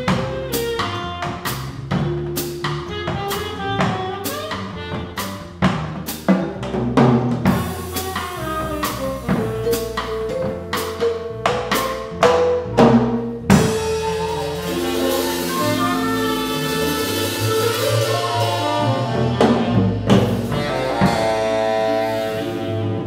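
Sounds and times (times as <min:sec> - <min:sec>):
small jazz combo playing: 0:00.0 - 0:23.0.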